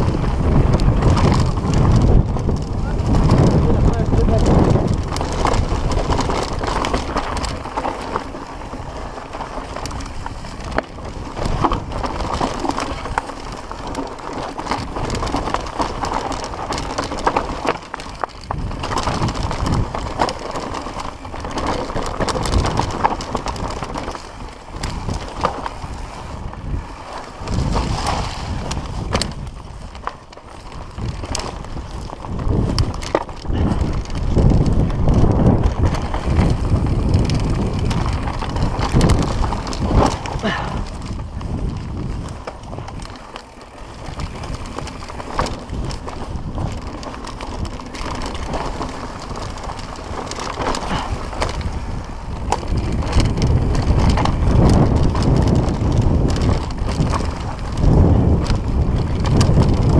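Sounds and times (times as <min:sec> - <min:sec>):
bike chain clicks and rattles: 0:00.0 - 0:59.9
tyres rolling over dirt and rocks: 0:00.0 - 0:59.9
wind buffeting microphone: 0:00.0 - 0:59.9.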